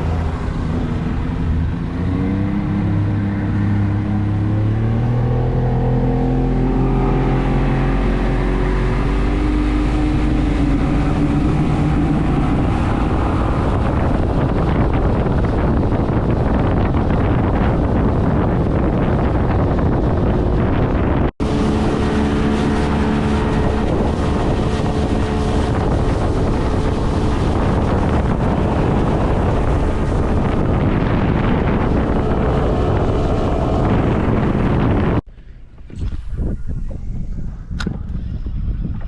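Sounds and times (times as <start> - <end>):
boat motor running: 0.0 - 39.0
wind buffeting microphone: 0.0 - 39.0.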